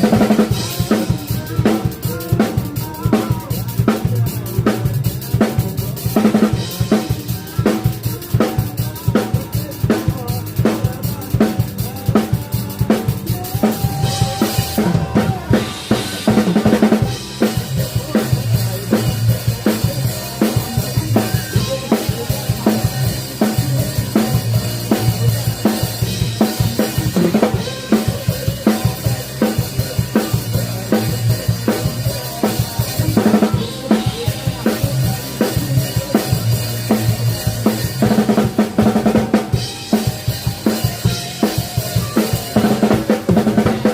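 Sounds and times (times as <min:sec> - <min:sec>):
rock drum kit beat: 0:00.0 - 0:43.9.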